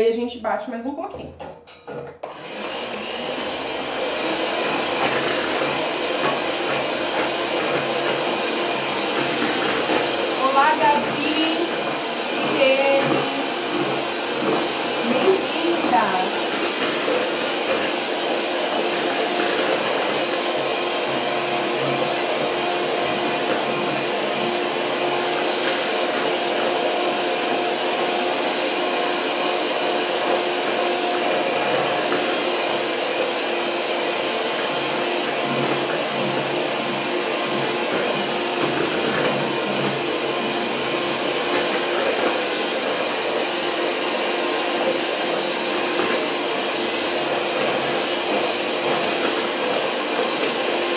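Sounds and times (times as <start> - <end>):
stand mixer motor whirring: 2.0 - 50.9.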